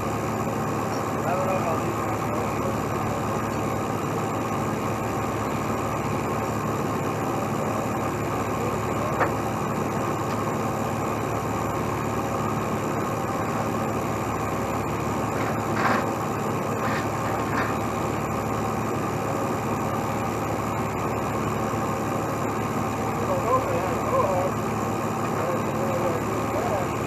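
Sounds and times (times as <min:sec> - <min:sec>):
diesel truck engine idling: 0:00.0 - 0:27.0.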